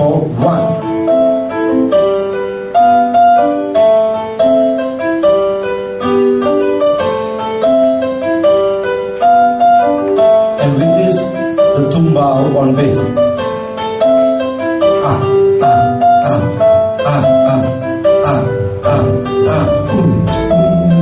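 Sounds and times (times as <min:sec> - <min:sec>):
keyboard playing salsa montuno: 0:00.0 - 0:21.0.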